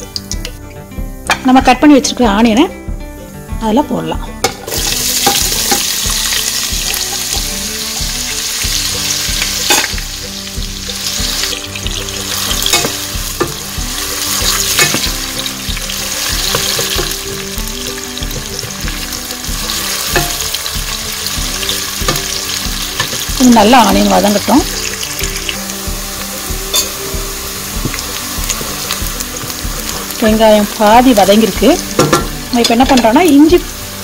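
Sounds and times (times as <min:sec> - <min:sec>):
onions sizzling in oil: 0:00.0 - 0:02.5, 0:03.3 - 0:34.0.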